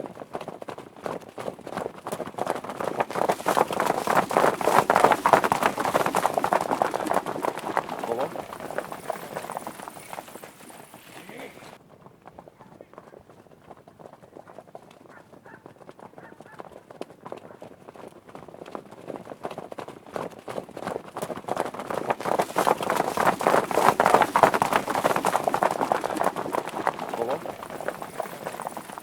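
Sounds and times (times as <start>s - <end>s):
horses galloping: 0.0s - 29.0s.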